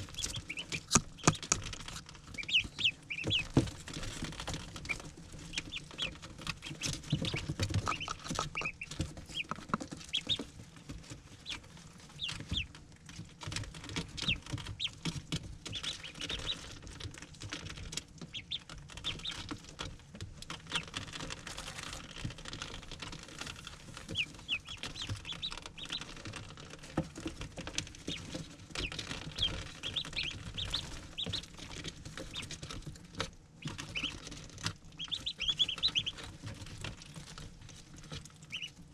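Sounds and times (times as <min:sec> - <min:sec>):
ducklings peeping: 0:00.0 - 0:38.9
small feet tapping and scratching: 0:00.0 - 0:38.9.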